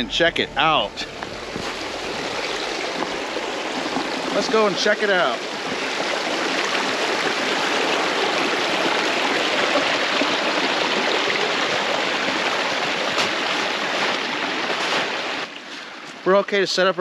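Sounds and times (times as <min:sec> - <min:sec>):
stream running over rocks: 0:00.7 - 0:17.0.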